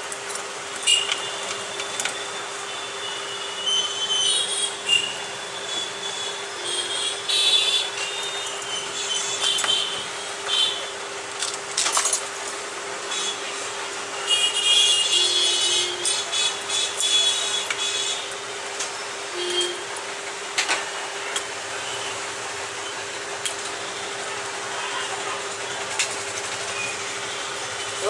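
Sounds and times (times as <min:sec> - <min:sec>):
steady street hum: 0:00.0 - 0:28.0.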